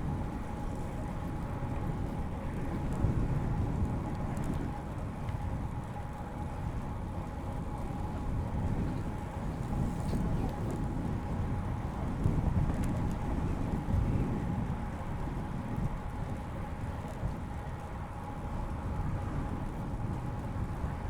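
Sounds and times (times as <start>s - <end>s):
bicycle tyres rolling on pavement: 0.0s - 21.0s
wind buffeting microphone: 0.0s - 21.0s.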